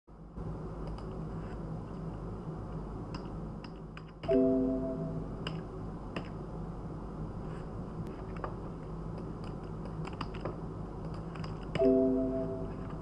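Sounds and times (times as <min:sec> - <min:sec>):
low steady hum: 0:00.1 - 0:13.0.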